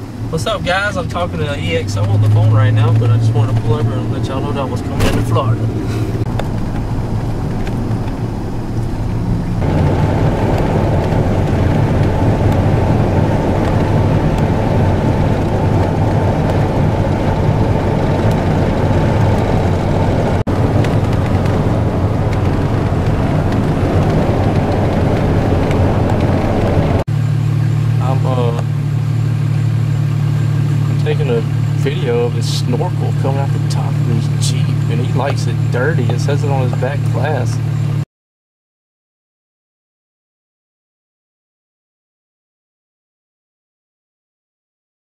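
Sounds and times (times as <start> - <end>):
in-cabin road and engine drone: 0.0 - 38.1.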